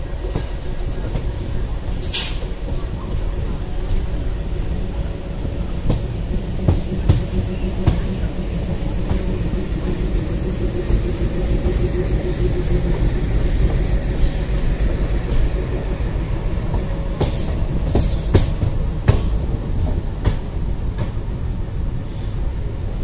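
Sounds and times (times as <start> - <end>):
wheels clacking over rail joints: 0.0 - 21.4
train wheels rumbling on track: 0.0 - 23.0.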